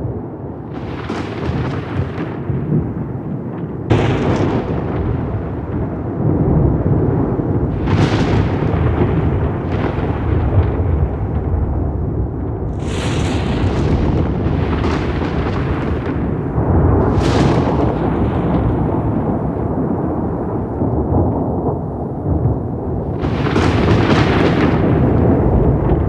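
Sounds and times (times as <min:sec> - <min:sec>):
crackling thunder peals: 0:00.0 - 0:26.0
rolling thunder rumbling: 0:00.0 - 0:26.0.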